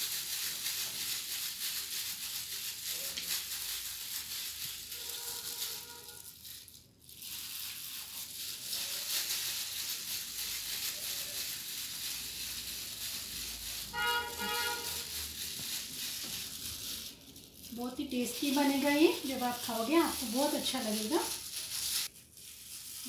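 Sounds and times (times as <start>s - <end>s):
plastic gloves crinkling: 0.0s - 23.0s.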